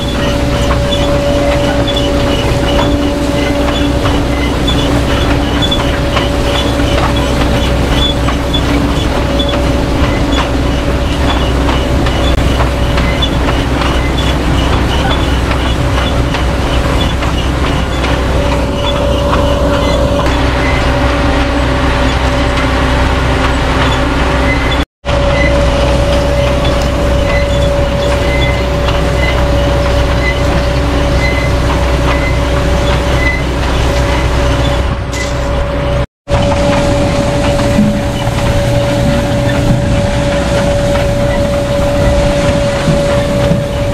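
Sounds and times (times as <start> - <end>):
machinery ticking: 0.0 - 35.3, 36.3 - 43.9
harvester mechanical drone: 0.0 - 43.9
machinery whine: 0.0 - 43.9.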